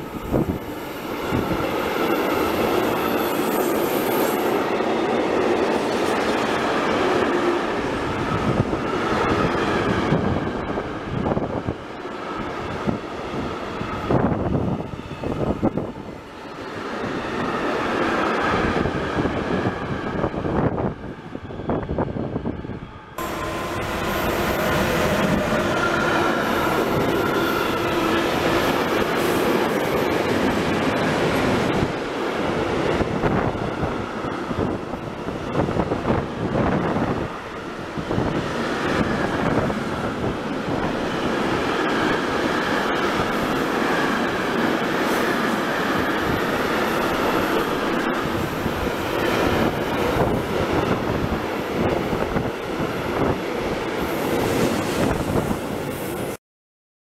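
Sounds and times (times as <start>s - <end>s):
train wheels rumbling on rails: 0.0s - 56.4s.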